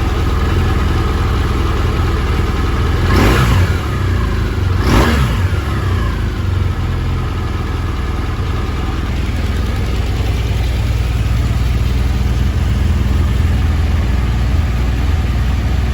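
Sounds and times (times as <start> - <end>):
engine idling rumble: 0.0 - 15.9.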